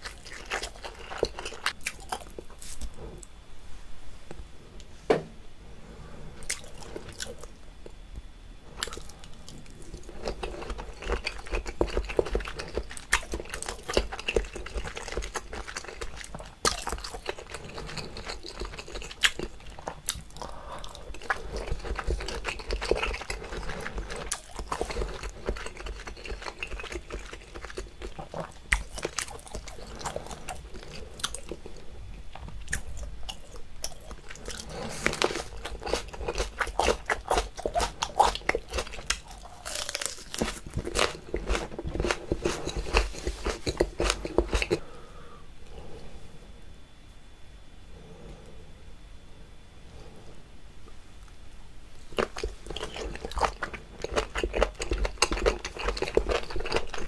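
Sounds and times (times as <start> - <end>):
wet chewing crunches: 0.0 - 3.4, 6.4 - 8.0, 8.7 - 45.0, 52.0 - 57.0.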